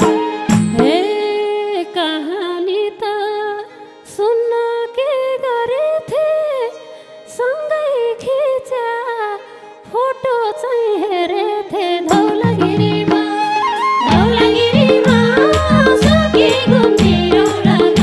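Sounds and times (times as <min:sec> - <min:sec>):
woman singing folk song: 0:00.1 - 0:18.0.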